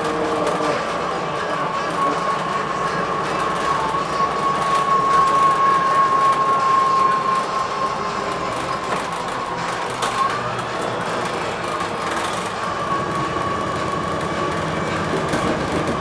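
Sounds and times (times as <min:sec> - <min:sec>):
bus engine whine: 0:00.0 - 0:16.0.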